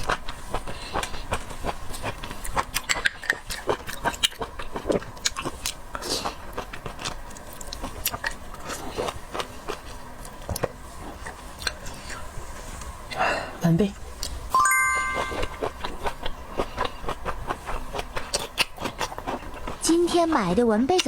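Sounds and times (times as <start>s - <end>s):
chewing and biting food: 0.0s - 12.2s, 15.8s - 21.0s.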